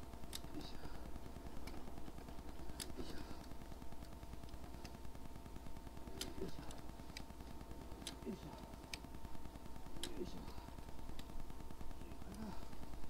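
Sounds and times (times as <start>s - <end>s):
faint clicks: 0.2s - 13.0s.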